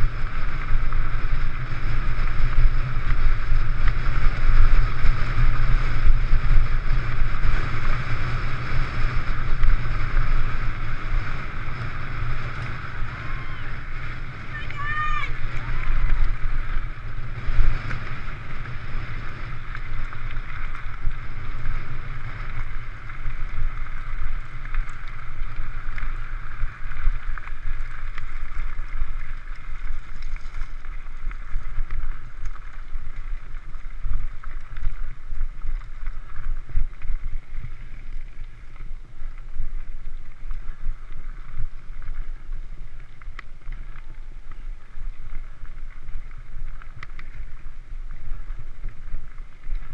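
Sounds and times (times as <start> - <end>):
tyres rolling on gravel: 0.0 - 49.9
wind on microphone: 0.0 - 49.9.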